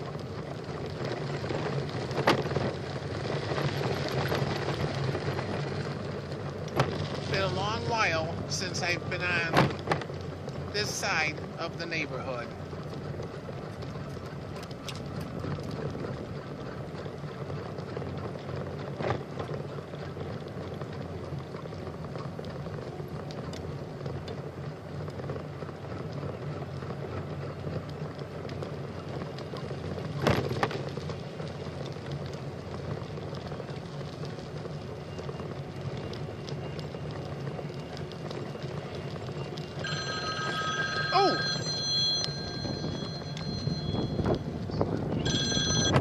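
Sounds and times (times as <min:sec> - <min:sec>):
bicycle rolling on trail: 0:00.0 - 0:46.0.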